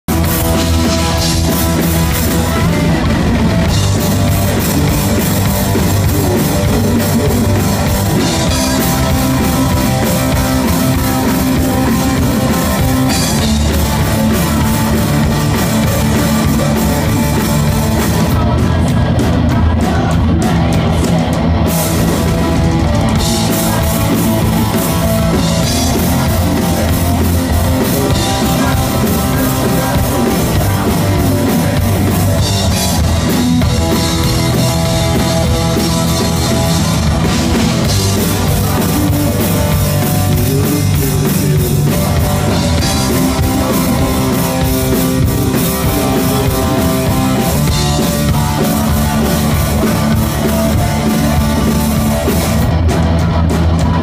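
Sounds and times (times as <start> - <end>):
driving drum kit: 0.0 - 54.0
electric guitar: 0.0 - 54.0
live rock band playing: 0.0 - 54.0.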